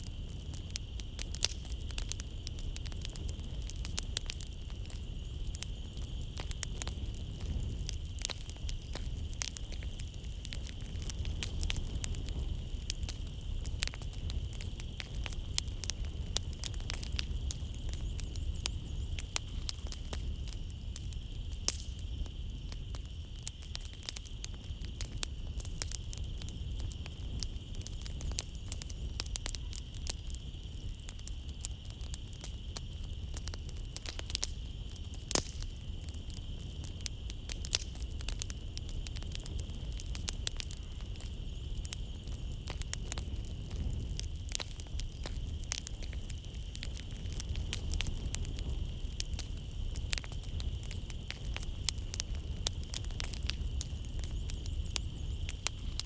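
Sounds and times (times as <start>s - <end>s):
night insects chirring: 0.0s - 56.0s
wood fire crackling and popping: 0.0s - 56.0s.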